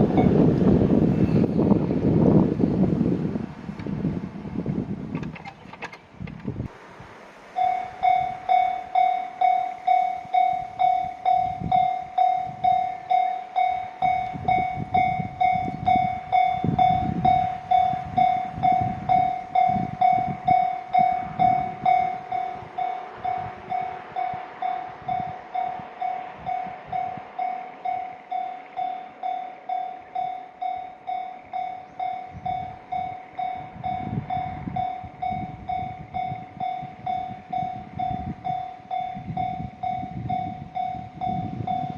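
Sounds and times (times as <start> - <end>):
railroad crossing bell ringing: 0.0 - 1.8, 7.5 - 41.9
train rumbling past: 0.0 - 41.9.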